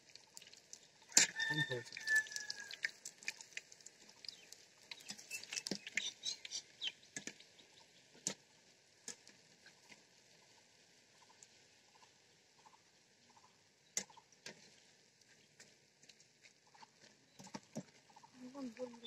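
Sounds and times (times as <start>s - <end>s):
batter frying in hot oil: 0.0s - 18.9s.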